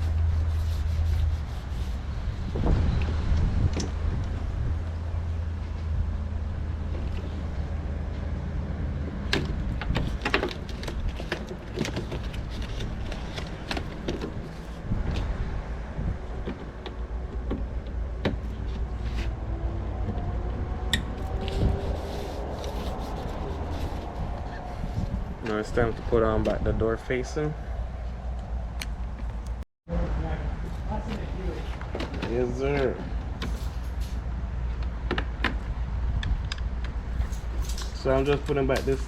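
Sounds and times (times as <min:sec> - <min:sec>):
steady low rumble: 0:00.0 - 0:31.9.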